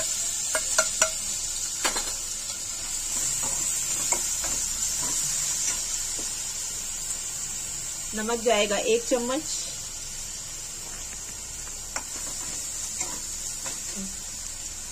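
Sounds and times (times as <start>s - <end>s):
paste sizzling in hot oil: 0.0s - 14.9s.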